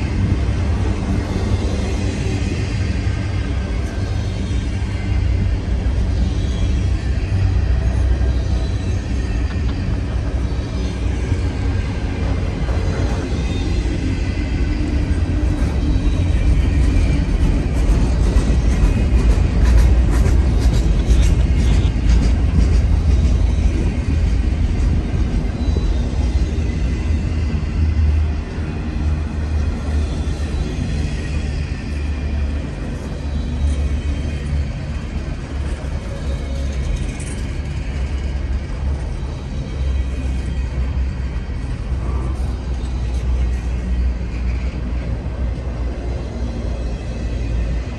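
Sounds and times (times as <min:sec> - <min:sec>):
freight train wheels rumbling: 0:00.0 - 0:47.9.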